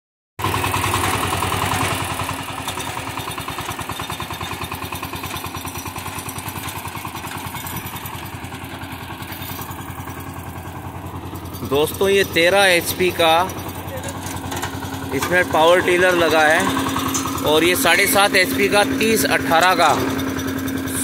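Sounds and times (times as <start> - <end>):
diesel engine chugging: 0.4 - 21.0.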